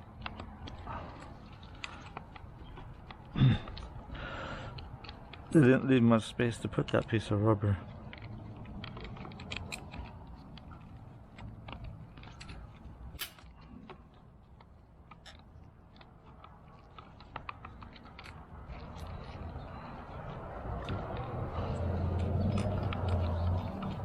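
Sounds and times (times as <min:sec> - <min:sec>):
plastic parts clicking and tapping: 0:00.0 - 0:19.4.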